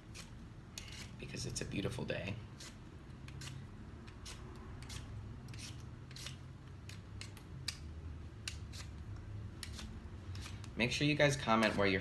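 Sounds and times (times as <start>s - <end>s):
peeler scraping potato skin: 0.0s - 1.6s, 2.4s - 12.0s.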